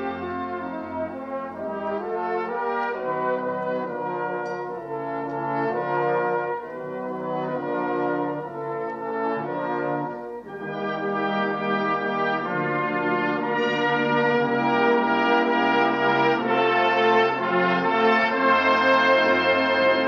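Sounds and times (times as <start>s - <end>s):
brass band playing chords: 0.0s - 20.0s.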